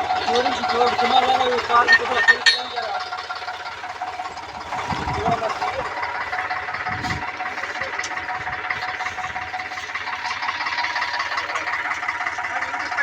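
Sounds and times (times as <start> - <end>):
tractor diesel engine knocking: 0.0 - 13.0.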